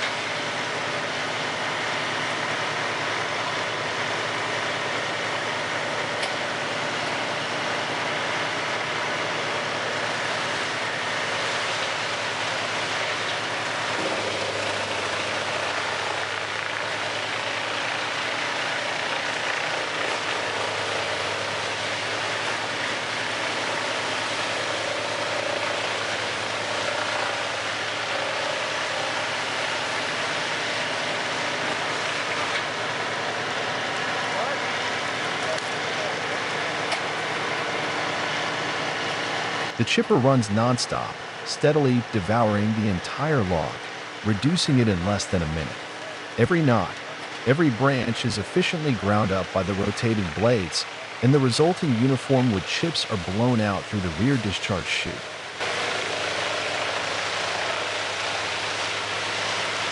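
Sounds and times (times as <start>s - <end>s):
wood chipper grinding log: 0.0s - 59.9s.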